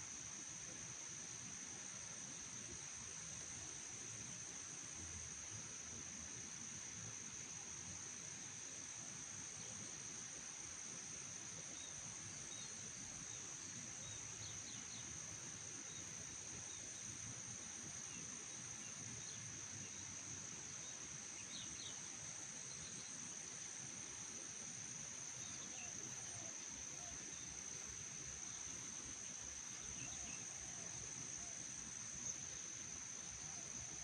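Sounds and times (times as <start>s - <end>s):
crickets trilling: 0.1s - 34.0s.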